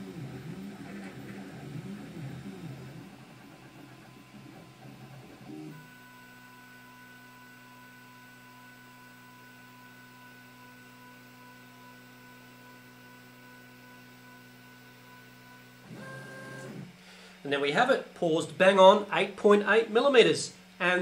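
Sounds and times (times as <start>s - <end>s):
three d printer humming: 0.0s - 21.0s.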